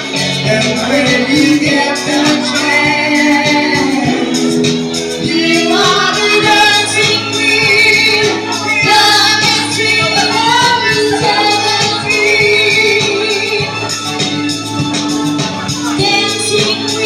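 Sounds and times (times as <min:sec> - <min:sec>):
backing track with steady beat: 0:00.0 - 0:17.0
girl singing into microphone: 0:00.8 - 0:14.0, 0:15.6 - 0:17.0.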